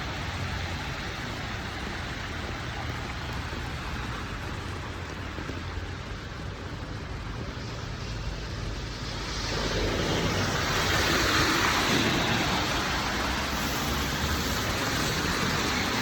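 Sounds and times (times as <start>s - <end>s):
steady rain: 0.0s - 16.0s
tyres hissing on wet street: 0.0s - 16.0s.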